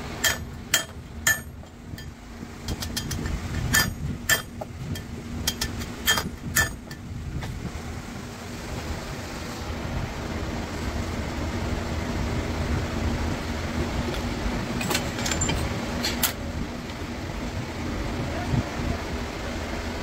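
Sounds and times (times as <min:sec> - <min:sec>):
constant hum: 0:00.0 - 0:20.0
low mechanical rumble: 0:00.0 - 0:20.0.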